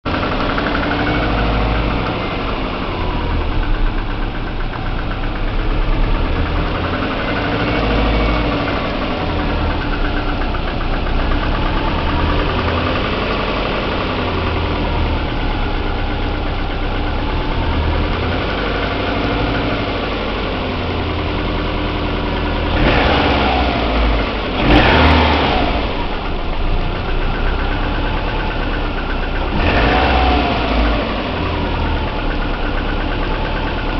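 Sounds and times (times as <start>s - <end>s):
car engine idling with knock: 0.0s - 33.9s.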